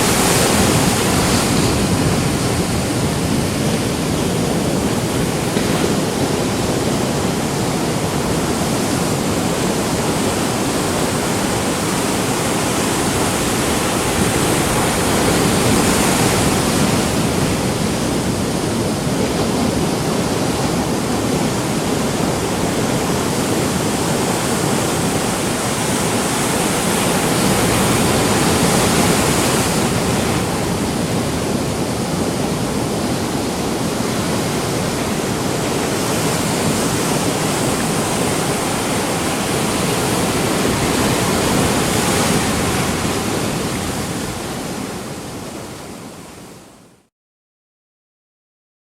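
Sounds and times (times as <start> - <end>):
ocean waves breaking: 0.0 - 46.6.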